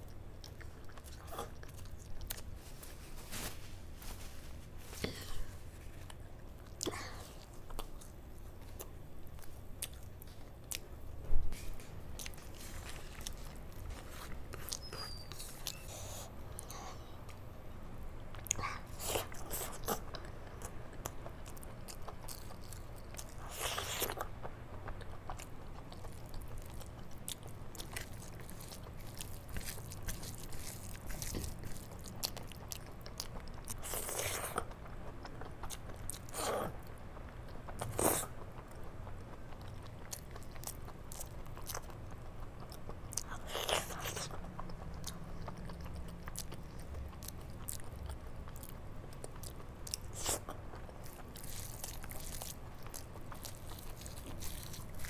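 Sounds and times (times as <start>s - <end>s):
wet chewing and mouth sounds: 0.0s - 3.0s, 4.5s - 17.4s, 18.2s - 55.0s.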